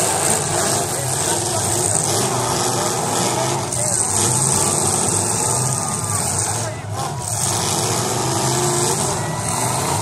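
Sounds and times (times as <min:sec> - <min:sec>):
car engines running loud: 0:00.0 - 0:10.0.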